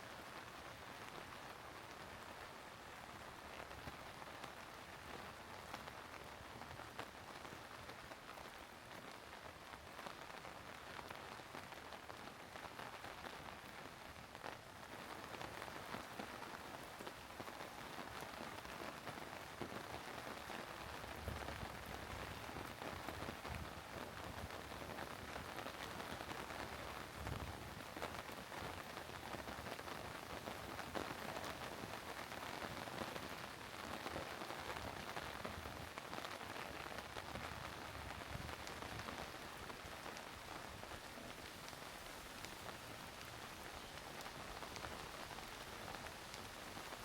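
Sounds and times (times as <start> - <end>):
steady rain on outdoor surfaces: 0.0 - 47.0.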